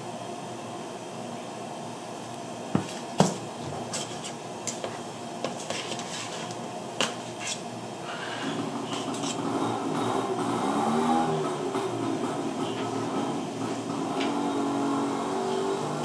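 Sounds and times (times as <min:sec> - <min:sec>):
kitchen background noise: 0:02.2 - 0:16.0.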